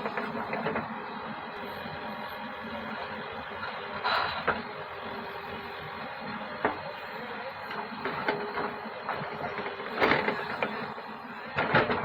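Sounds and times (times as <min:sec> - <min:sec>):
diesel machinery running: 0:00.0 - 0:12.0.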